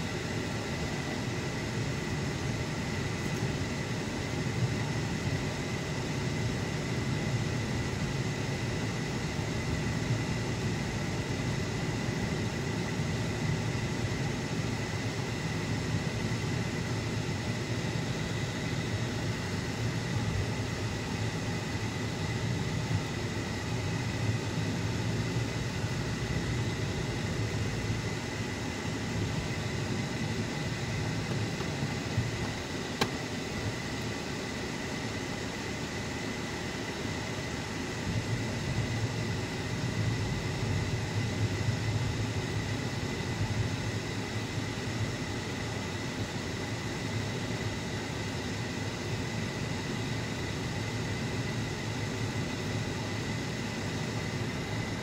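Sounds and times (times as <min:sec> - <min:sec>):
car cabin road and engine noise: 0:00.0 - 0:55.0.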